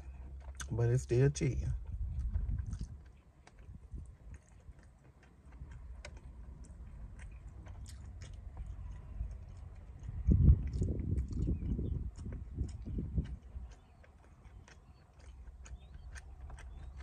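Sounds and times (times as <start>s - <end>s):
chewing and mouth clicks: 0.0s - 17.0s
steady low rumble: 0.0s - 17.0s.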